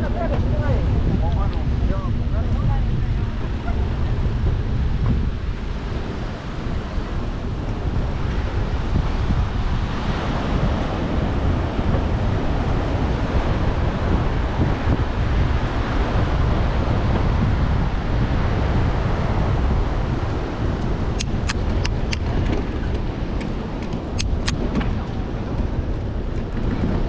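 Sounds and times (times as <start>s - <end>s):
surf washing over rocks: 0.0s - 27.0s
wind buffeting microphone: 0.0s - 27.0s.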